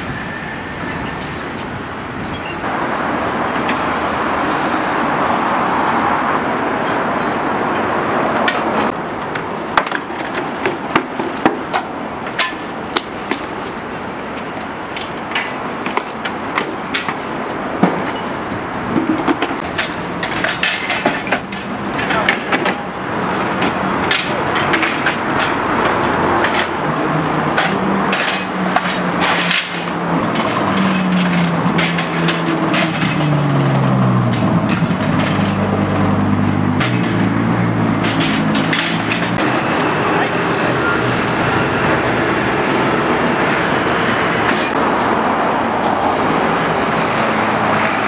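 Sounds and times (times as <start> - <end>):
heavy vehicle engine: 0.0 - 48.0
street traffic: 0.0 - 48.0.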